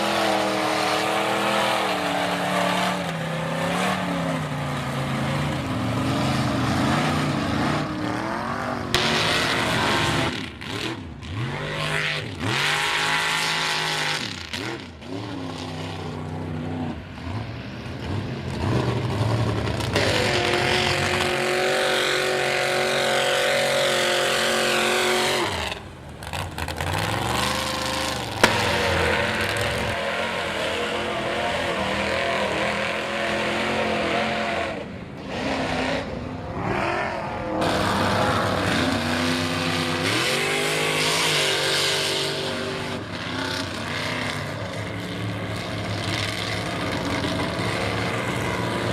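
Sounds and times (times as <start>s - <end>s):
truck engines revving hard: 0.0s - 48.9s.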